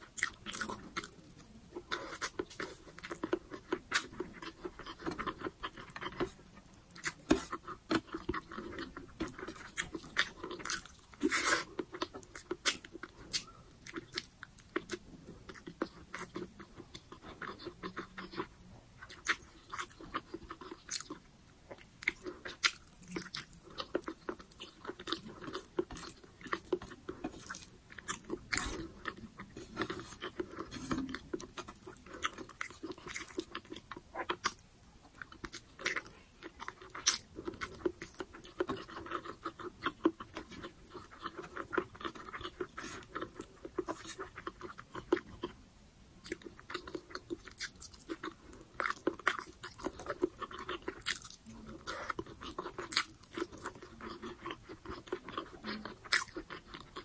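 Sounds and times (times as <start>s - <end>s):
chewing with wet mouth clicks: 0.0s - 45.6s, 46.2s - 57.0s.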